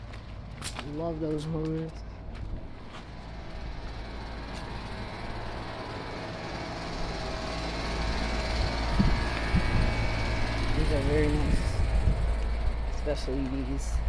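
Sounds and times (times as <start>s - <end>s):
air conditioner units humming: 0.0s - 14.0s.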